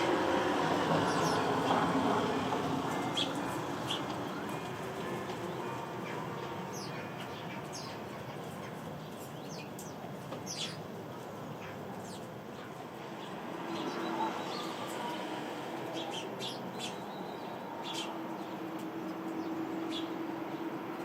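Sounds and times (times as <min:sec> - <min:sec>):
sparrows chirping: 0:00.4 - 0:15.2, 0:15.8 - 0:20.8.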